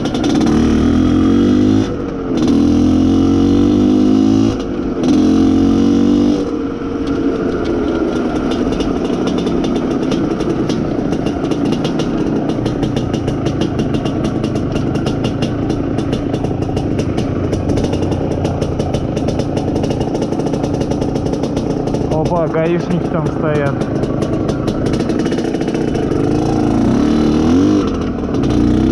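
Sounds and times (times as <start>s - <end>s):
two-stroke motorcycle engine running: 0.0s - 28.9s.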